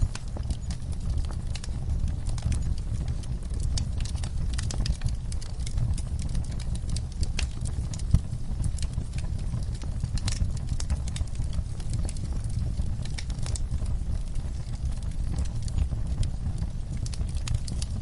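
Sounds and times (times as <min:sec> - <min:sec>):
fireplace crackling and popping: 0:00.0 - 0:18.0
low fire rumble: 0:00.0 - 0:18.0
soft rain: 0:00.0 - 0:18.0.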